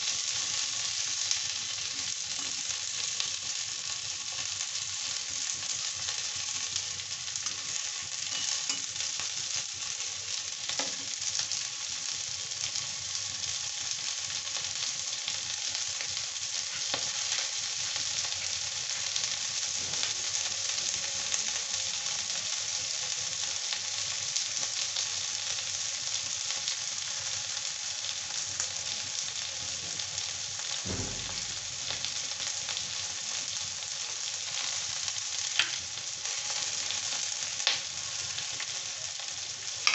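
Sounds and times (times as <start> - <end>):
vegetables sizzling in oil: 0.0 - 39.9.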